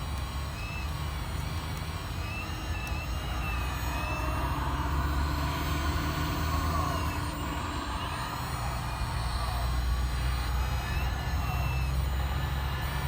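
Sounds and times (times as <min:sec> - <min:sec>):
toy excavator humming and whining: 0:00.0 - 0:13.0.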